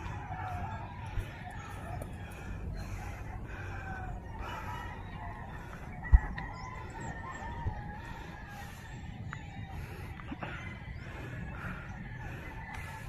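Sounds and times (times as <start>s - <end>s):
rooster crowing: 0.0s - 13.0s.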